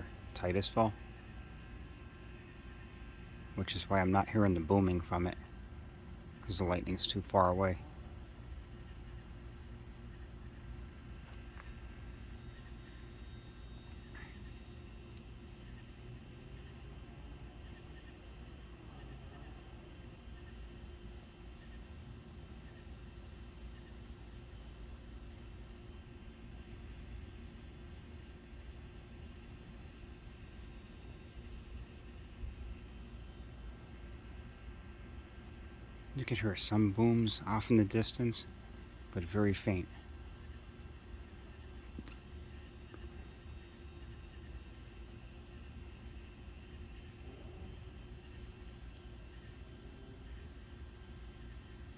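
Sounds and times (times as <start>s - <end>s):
low background hum: 0.0s - 50.7s
insects chirring: 0.0s - 51.9s.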